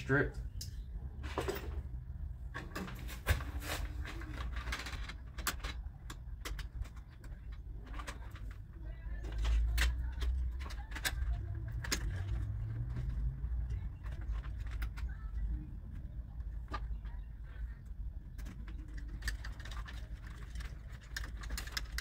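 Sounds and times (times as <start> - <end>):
wires clicking and scraping: 0.5 - 22.0.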